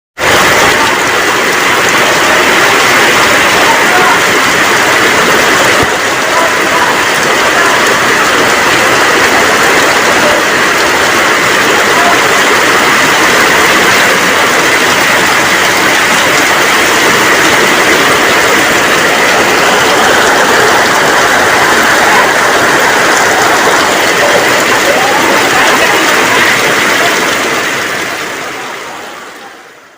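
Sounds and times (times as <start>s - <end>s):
heavy rain pouring: 0.2s - 29.9s.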